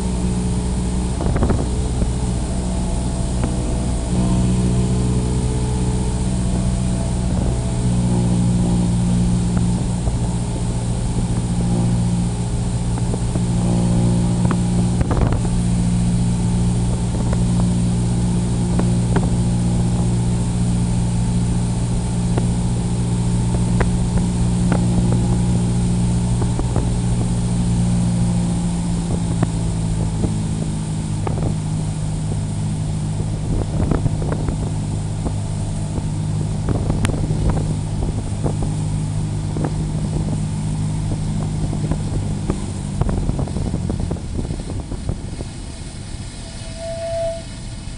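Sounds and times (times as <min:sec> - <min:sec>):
propeller plane engine running: 0:00.0 - 0:47.9.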